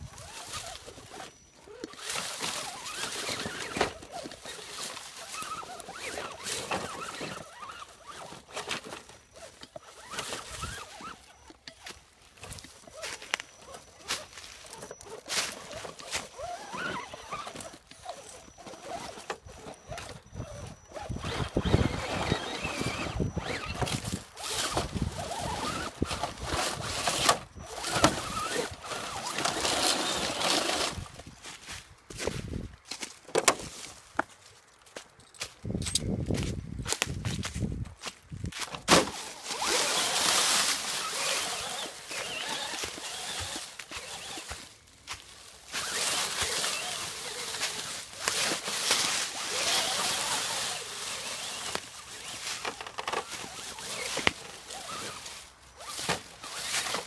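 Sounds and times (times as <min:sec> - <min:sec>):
electric motor and gears whining: 0:00.0 - 0:33.6, 0:35.7 - 0:57.0
dry leaves rustling and crunching: 0:00.0 - 0:57.0.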